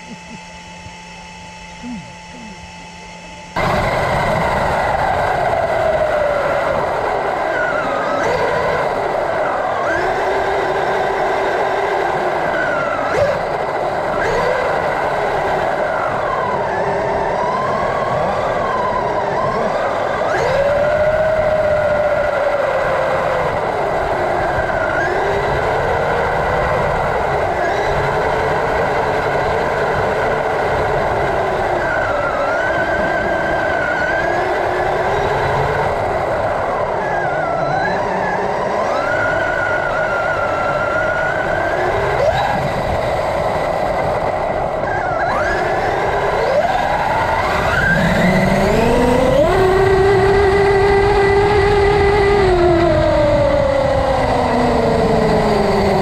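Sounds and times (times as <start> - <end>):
drivetrain and tyres rumbling: 0.0 - 56.0
electric motor whining: 0.0 - 56.0.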